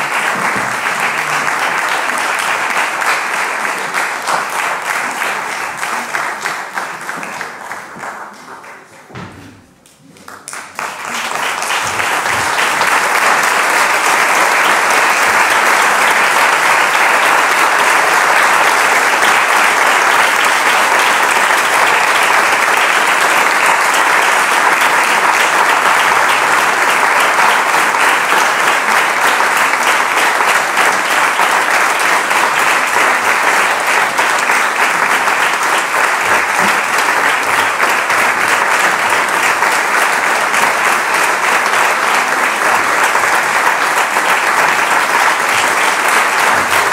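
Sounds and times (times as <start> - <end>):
audience applause: 0.0 - 9.1, 10.0 - 46.9.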